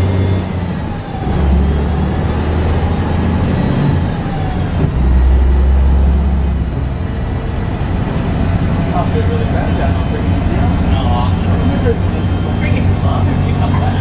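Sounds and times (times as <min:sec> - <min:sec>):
bus diesel engine from inside: 0:00.0 - 0:14.0.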